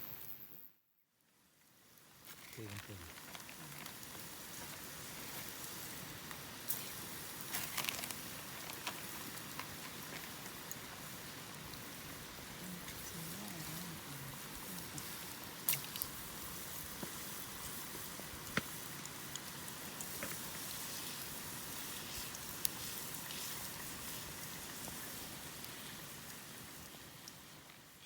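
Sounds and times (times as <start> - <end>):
oil sizzling: 1.7 - 28.0.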